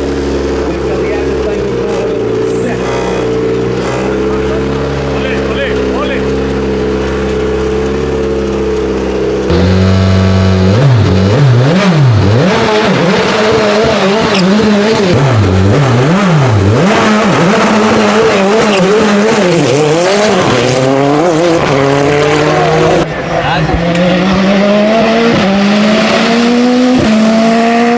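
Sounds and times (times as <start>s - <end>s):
race car engine revving: 0.0s - 27.9s.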